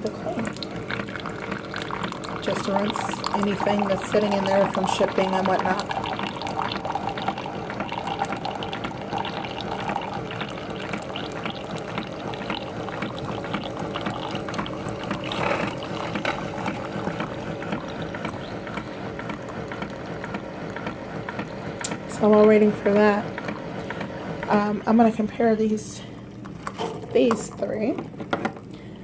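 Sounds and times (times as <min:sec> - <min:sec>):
water gurgling and pouring: 0:00.0 - 0:27.6
coffee maker pump humming and rattling: 0:00.0 - 0:29.0.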